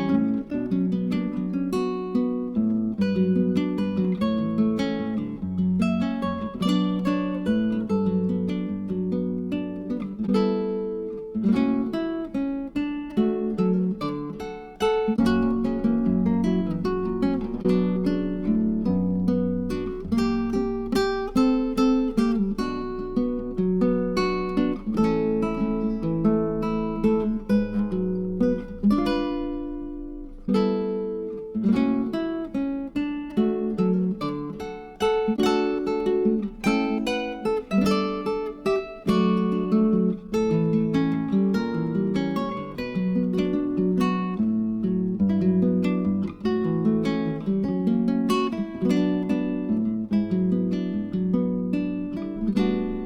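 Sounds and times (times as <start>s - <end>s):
acoustic guitar strumming and picking: 0.0s - 53.0s.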